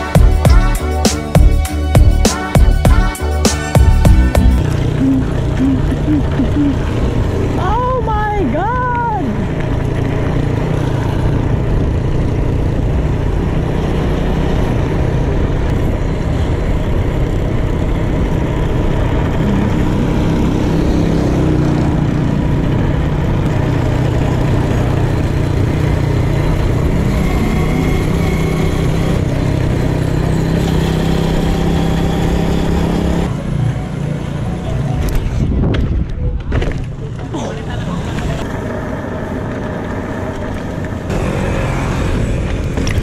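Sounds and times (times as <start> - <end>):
vehicle engine running: 1.4 - 43.0.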